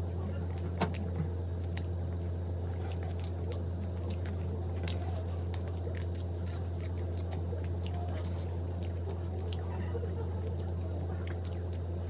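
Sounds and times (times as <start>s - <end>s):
steady low hum: 0.0s - 12.0s
person chewing food: 0.6s - 9.8s, 10.4s - 12.0s.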